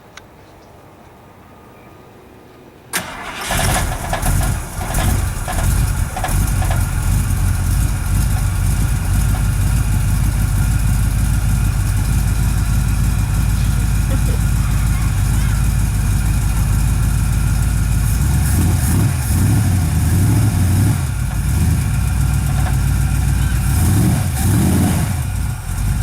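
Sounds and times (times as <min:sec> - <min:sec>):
truck engine starting and idling: 0:02.9 - 0:26.0.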